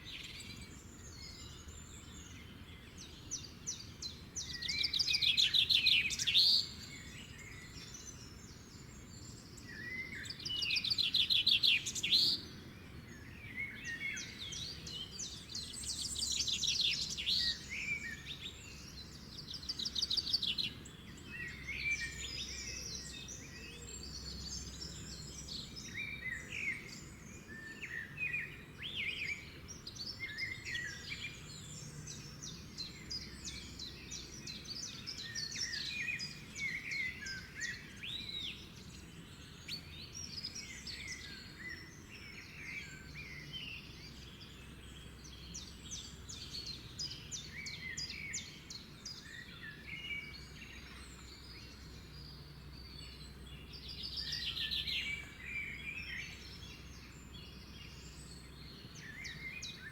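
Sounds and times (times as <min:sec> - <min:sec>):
birds singing and calling: 0:00.0 - 0:59.9.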